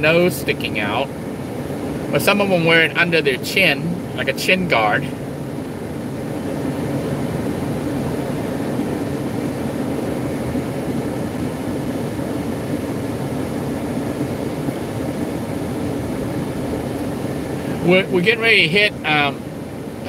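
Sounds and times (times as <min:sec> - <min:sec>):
van engine and tyre rumble: 0:00.0 - 0:20.0.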